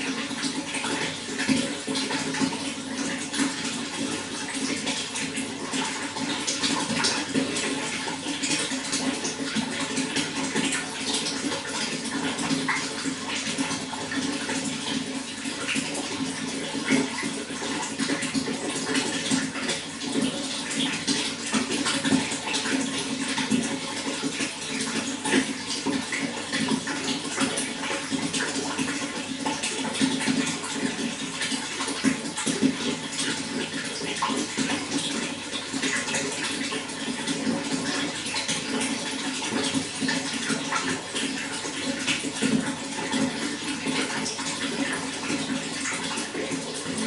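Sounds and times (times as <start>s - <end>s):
running water: 0.0s - 47.0s.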